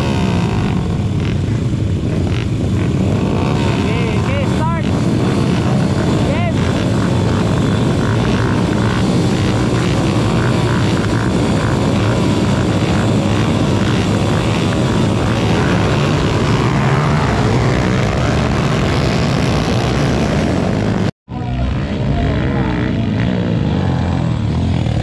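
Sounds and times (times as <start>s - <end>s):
small motorcycle engines revving: 0.0s - 25.0s.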